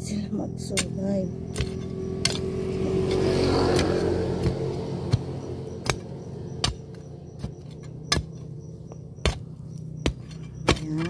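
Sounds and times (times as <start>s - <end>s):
steady engine hum: 0.0s - 11.0s
metal tool striking soil: 0.5s - 11.0s.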